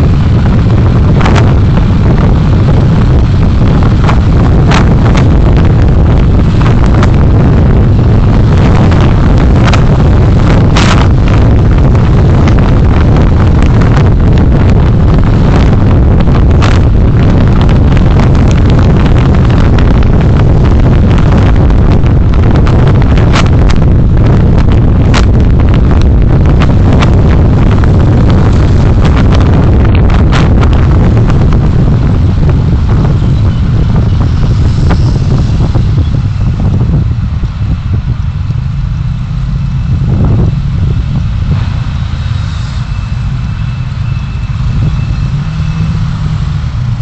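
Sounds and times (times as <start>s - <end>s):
road and wind rumble: 0.0s - 47.0s.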